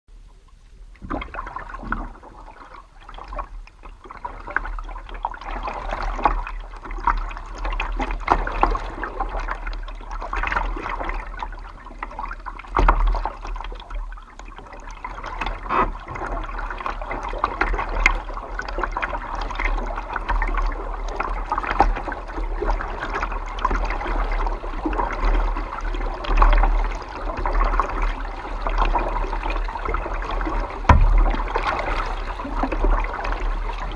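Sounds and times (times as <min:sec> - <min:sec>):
low steady rumble: 0:00.1 - 0:33.9
water gurgling along hull: 0:00.1 - 0:33.9
paddle splashing and dripping: 0:00.4 - 0:33.9.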